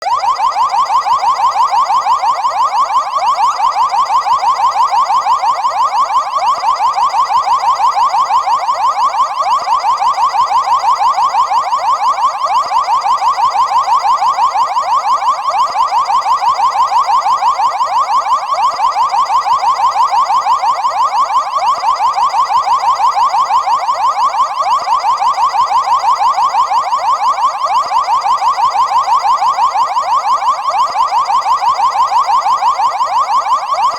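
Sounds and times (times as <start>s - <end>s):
car alarm pulsing tone: 0.0s - 33.9s.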